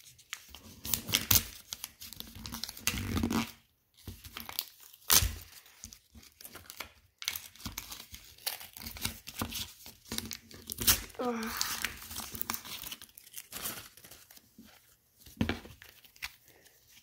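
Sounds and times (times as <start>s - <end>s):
paper crinkling and tearing: 0.0s - 15.0s.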